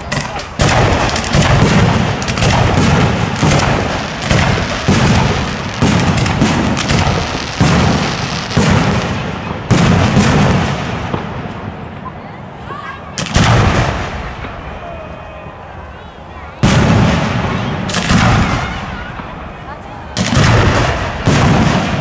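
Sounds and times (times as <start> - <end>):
fireworks bangs with echoing rumble: 0.0 - 22.0.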